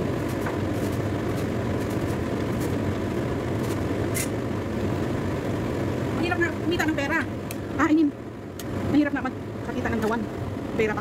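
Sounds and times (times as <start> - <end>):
gas stove burner rumble: 0.0 - 11.0.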